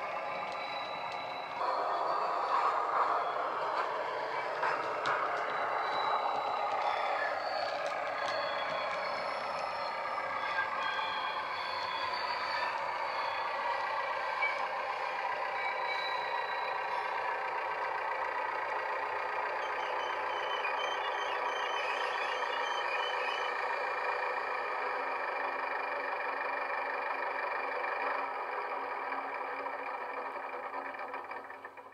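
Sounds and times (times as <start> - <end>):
model railcar diesel engine sound: 0.0 - 31.9.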